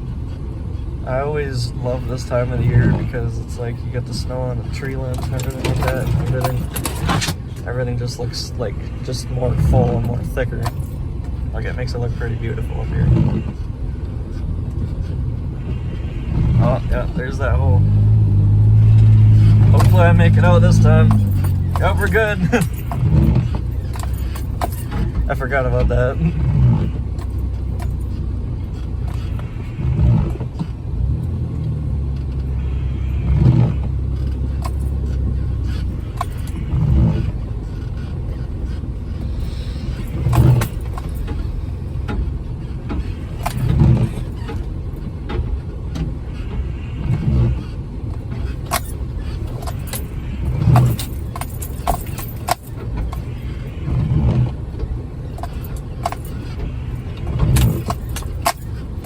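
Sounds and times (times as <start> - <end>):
vehicle engine droning: 0.0 - 59.0
light clicks and rattles: 1.0 - 15.8, 18.6 - 32.7, 33.4 - 59.0.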